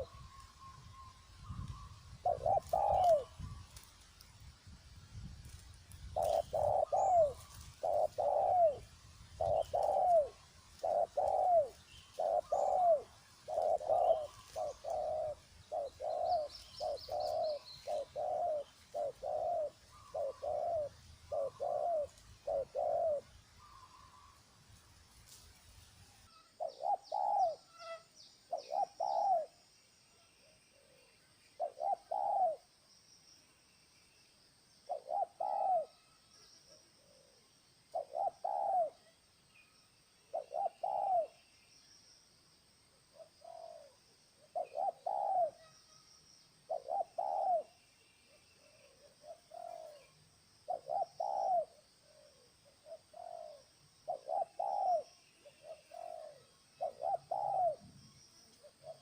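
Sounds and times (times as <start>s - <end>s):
dove cooing: 0.0s - 4.0s, 5.5s - 24.4s, 26.6s - 27.7s, 28.5s - 29.6s, 30.4s - 32.7s, 34.9s - 39.1s, 40.3s - 41.4s, 43.1s - 45.7s, 46.6s - 59.0s
faint high bird chirps: 0.0s - 42.3s, 43.1s - 59.0s.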